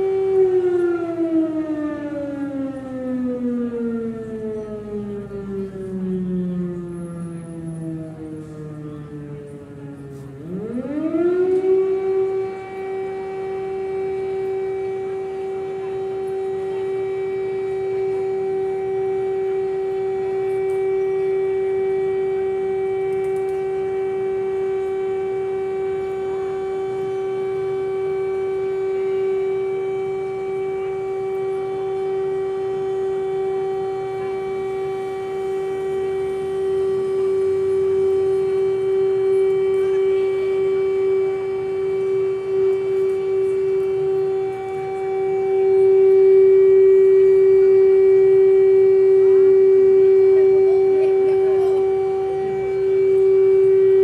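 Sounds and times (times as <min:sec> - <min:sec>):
air-raid siren: 0:00.0 - 0:54.0.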